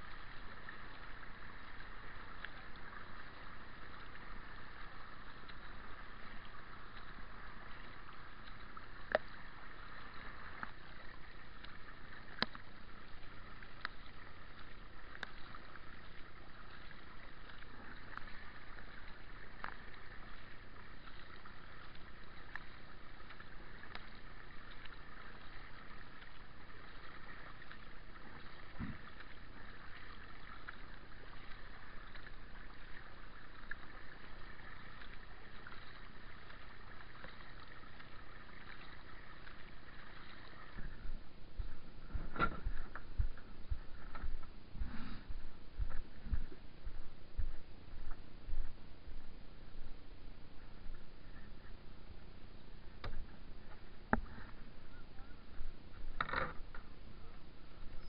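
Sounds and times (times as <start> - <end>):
paddle strokes in water: 0.0 - 52.2.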